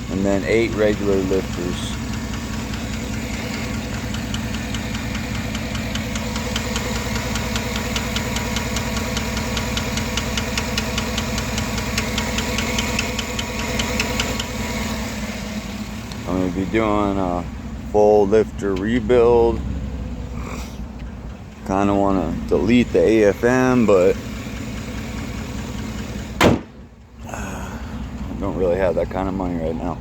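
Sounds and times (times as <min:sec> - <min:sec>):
engine idling with rapid ticking: 0:00.0 - 0:30.0.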